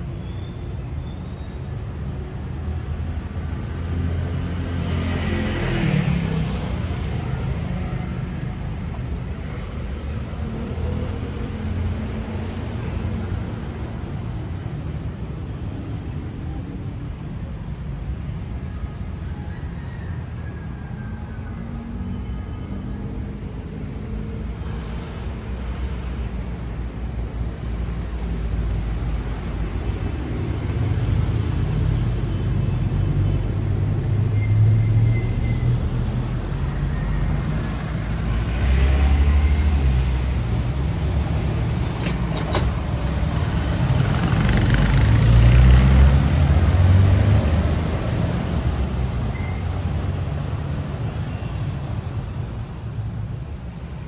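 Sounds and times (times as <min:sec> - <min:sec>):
vehicles passing close by: 0:01.6 - 0:54.0.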